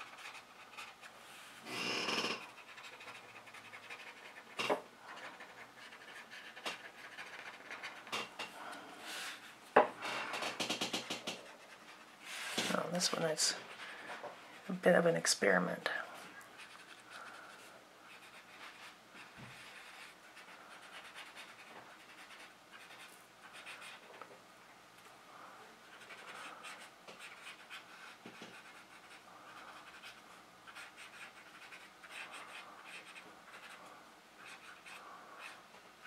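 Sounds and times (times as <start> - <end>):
pen scratching on paper: 0.0 - 8.2, 10.3 - 13.8, 16.6 - 24.0, 25.9 - 35.6.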